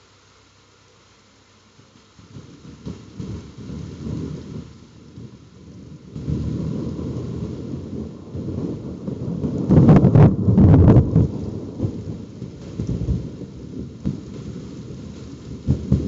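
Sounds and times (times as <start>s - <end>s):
thunder rumbling and cracking: 2.2s - 16.0s.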